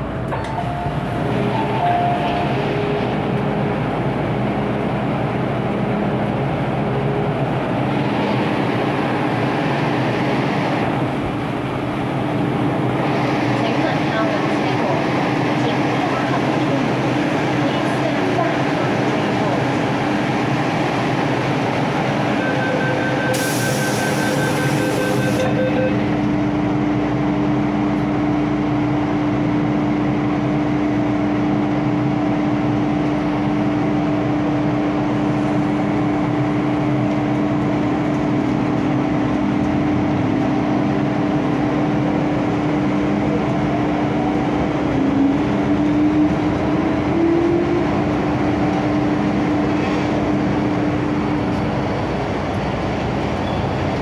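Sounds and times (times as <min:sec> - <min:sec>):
train running noise: 0:00.0 - 0:54.0.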